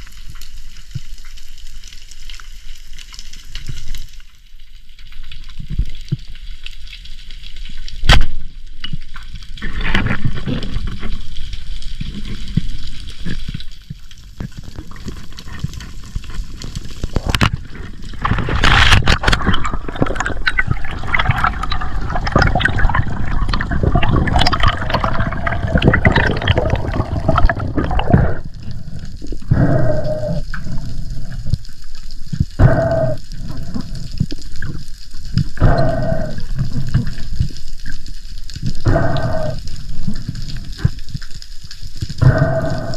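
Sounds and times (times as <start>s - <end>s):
water bubbling and gurgling: 0.0s - 42.9s.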